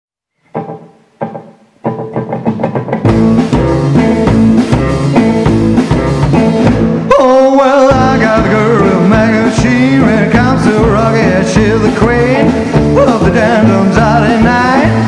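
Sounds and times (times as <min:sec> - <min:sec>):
rockabilly band playing: 0:00.4 - 0:15.0.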